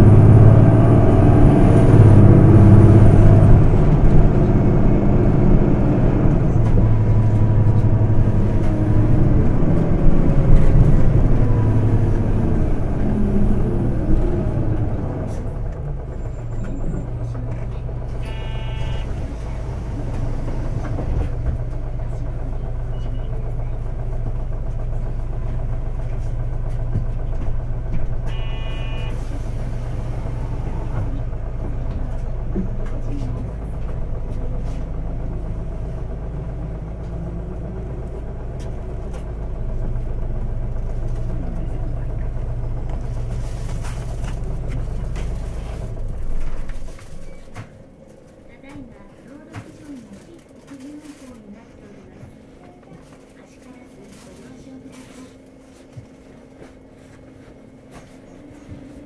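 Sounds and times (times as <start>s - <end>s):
bus diesel engine humming: 0.0s - 59.0s.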